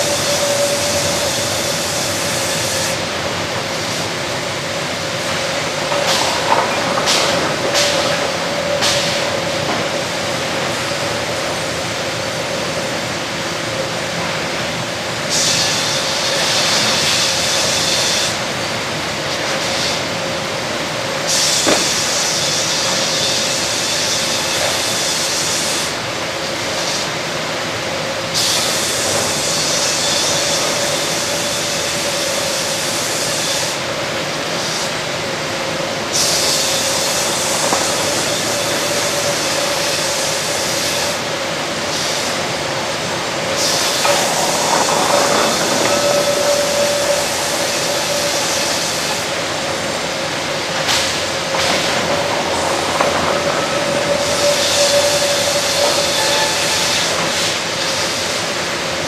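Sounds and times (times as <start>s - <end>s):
sawmill machine hum: 0.0s - 59.0s.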